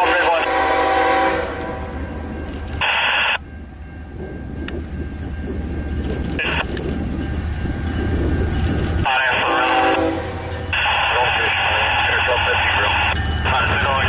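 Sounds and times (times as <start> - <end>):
freight locomotives rumbling: 0.0 - 14.0.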